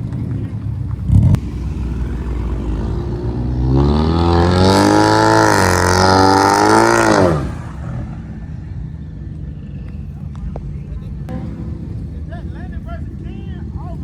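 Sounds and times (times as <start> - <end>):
car engine revving: 0.0 - 8.7, 11.2 - 14.0.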